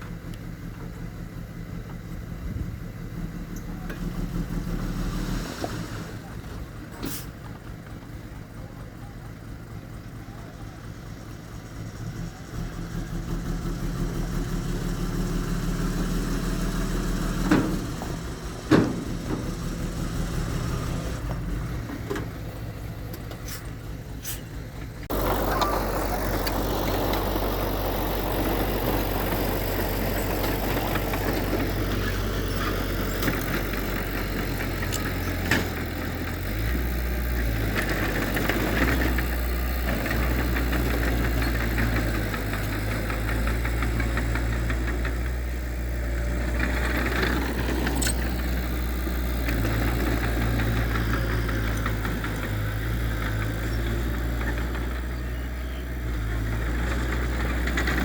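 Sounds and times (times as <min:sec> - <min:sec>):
earthmoving machinery engine: 0:00.0 - 0:58.0.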